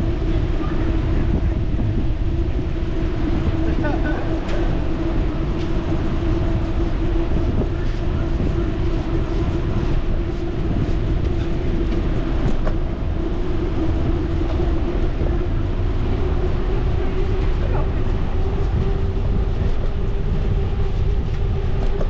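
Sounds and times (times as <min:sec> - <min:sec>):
steady hum: 0:00.0 - 0:22.0
wind buffeting microphone: 0:00.0 - 0:22.0.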